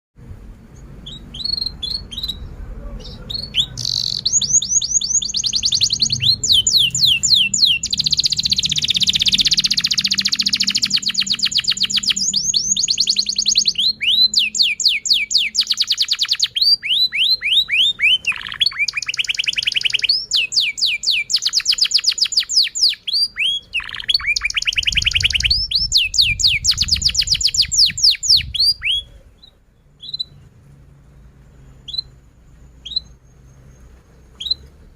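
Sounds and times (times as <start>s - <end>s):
canary singing: 0.8s - 30.7s, 31.5s - 34.9s.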